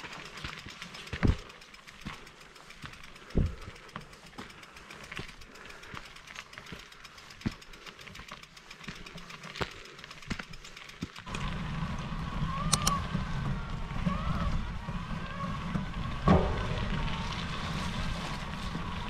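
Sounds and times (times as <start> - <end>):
bike rattling over rough trail: 0.0 - 19.0.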